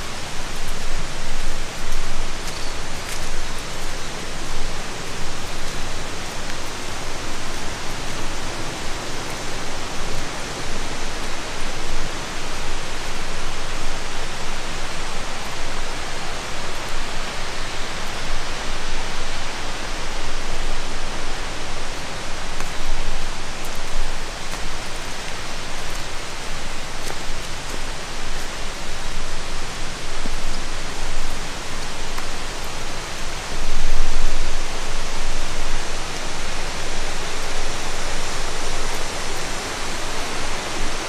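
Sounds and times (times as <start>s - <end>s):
hiss of running water: 0.0s - 41.0s.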